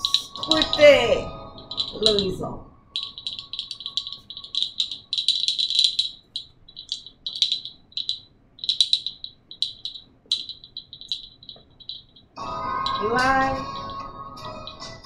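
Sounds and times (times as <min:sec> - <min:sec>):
hand rattle shaking: 0:00.0 - 0:02.4, 0:03.0 - 0:12.2, 0:12.8 - 0:14.0.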